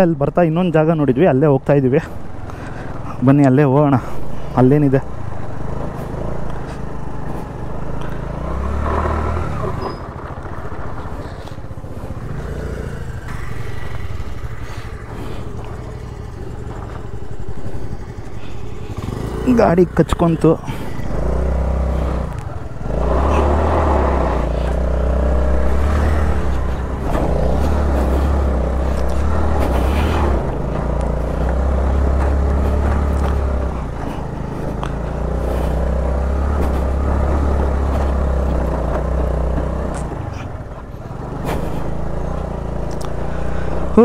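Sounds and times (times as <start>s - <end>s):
scooter engine under load: 0.5s - 44.0s
scooter underside scraping ground: 5.6s - 44.0s.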